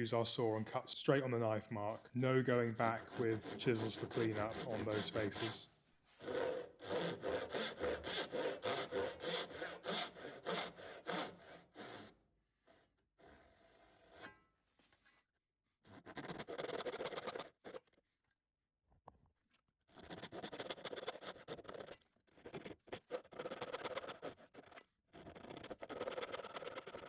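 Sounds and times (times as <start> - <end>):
hand saw cutting wood: 0.0 - 14.4, 15.8 - 17.8, 19.9 - 27.0.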